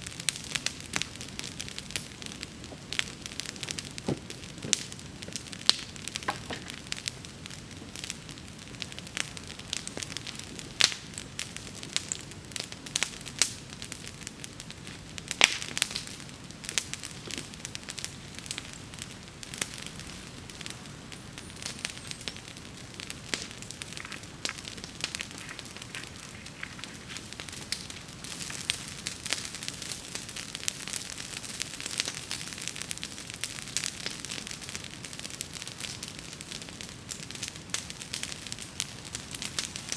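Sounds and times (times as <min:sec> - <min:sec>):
bonfire popping and crackling: 0:00.0 - 0:39.9
fire hissing: 0:00.0 - 0:39.9.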